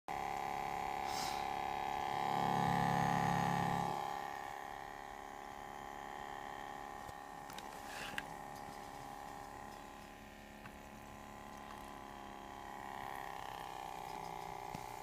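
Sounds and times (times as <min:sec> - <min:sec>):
deeper hum: 0:00.2 - 0:15.0.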